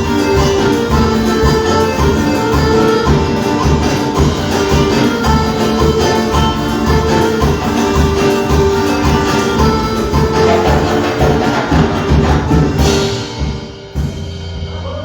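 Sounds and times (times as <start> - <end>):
live worship band music: 0.0 - 15.0.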